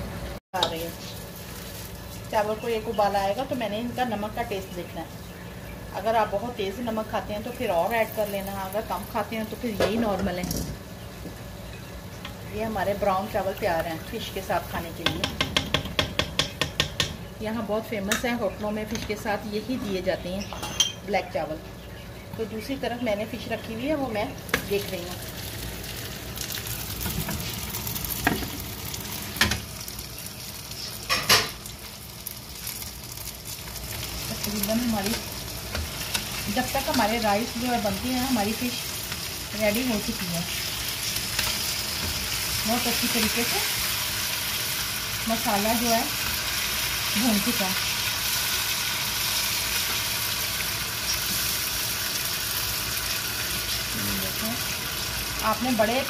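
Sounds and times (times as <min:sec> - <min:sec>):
fish sizzling in oil: 0:00.6 - 0:18.7, 0:22.6 - 0:56.0.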